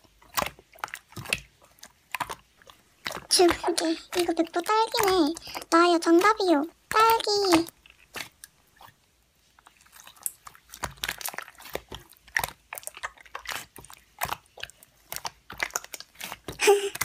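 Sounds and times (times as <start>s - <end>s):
slime squishing and crackling: 0.0s - 17.0s.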